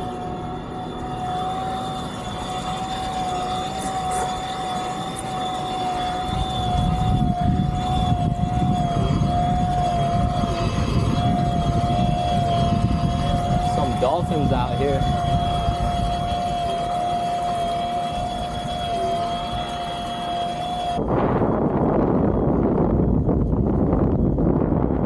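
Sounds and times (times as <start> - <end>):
electric motor whining: 0.0 - 25.0
wind on microphone: 0.0 - 25.0.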